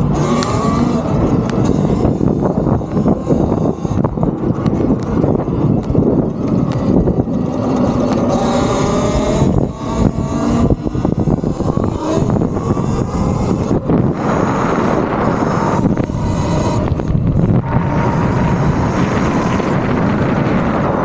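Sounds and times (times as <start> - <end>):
electric motor whine: 0.0 - 21.0
wind on microphone: 0.0 - 21.0.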